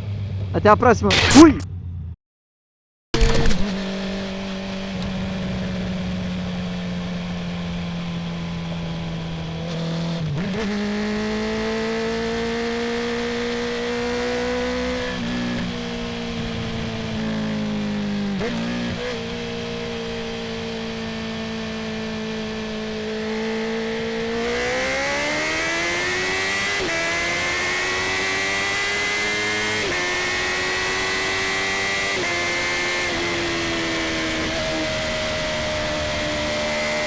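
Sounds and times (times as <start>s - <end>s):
motorcycle engine revving: 3.2s - 37.0s.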